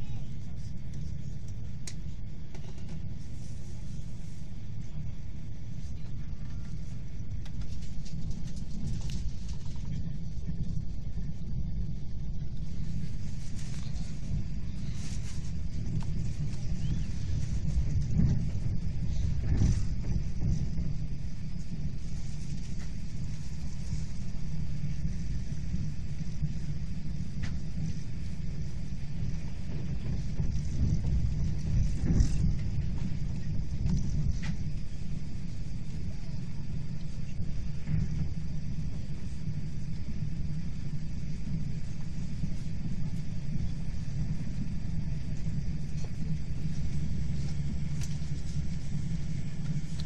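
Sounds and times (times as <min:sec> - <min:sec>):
train running at speed: 0:00.0 - 0:50.0.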